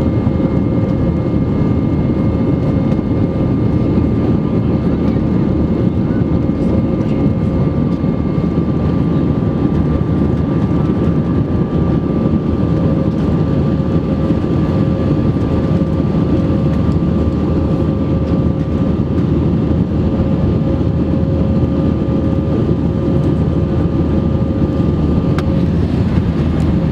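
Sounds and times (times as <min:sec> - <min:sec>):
jet engines rumbling: 0:00.0 - 0:26.9
steady whine: 0:00.0 - 0:26.9.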